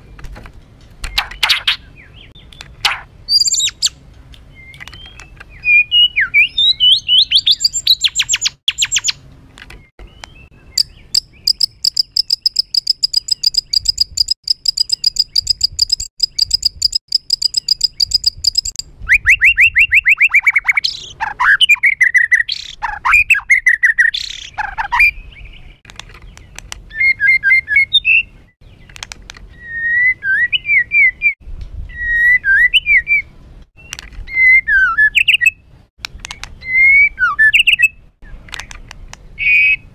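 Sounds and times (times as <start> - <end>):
bird singing whistles and trills: 1.1 - 9.2, 9.8 - 28.9, 29.5 - 35.6, 36.2 - 38.4, 39.4 - 39.9.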